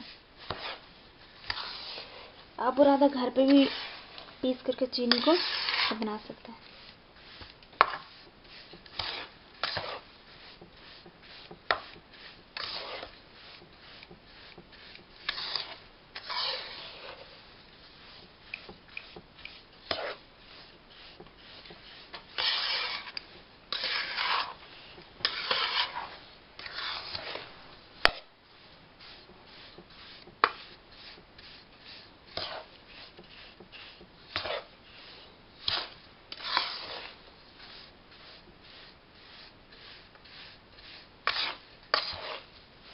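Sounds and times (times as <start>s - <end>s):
metal spoon scraping a pan: 0.0s - 42.9s.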